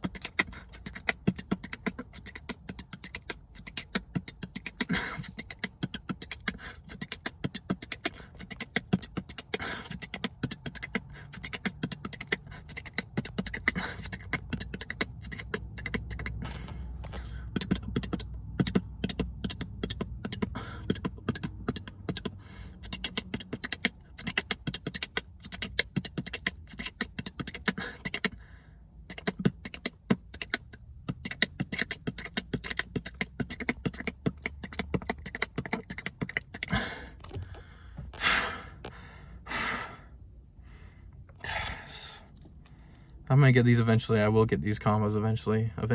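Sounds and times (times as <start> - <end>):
beatboxing clicks and mouth percussion: 0.0 - 39.8, 41.2 - 45.0
low hummed bass: 0.0 - 45.9.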